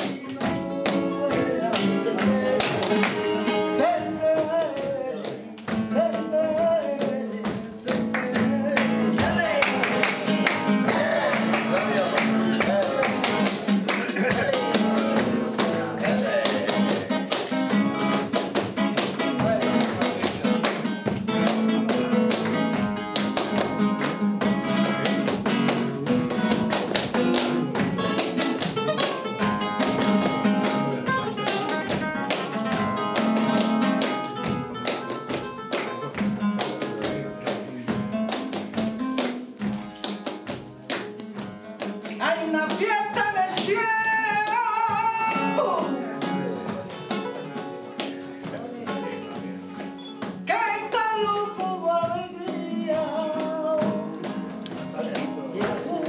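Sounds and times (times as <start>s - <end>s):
flamenco guitar playing: 0.0s - 56.0s
rhythmic handclaps: 0.0s - 56.0s.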